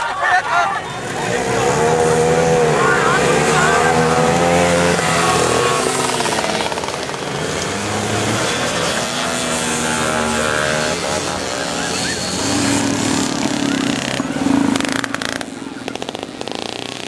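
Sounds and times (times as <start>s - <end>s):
moped and dirt-bike engines revving: 0.0s - 17.0s.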